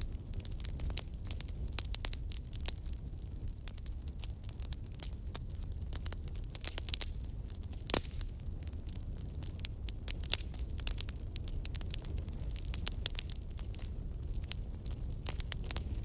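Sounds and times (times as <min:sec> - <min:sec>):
campfire crackling and popping: 0:00.0 - 0:16.0
low fire rumble: 0:00.0 - 0:16.0.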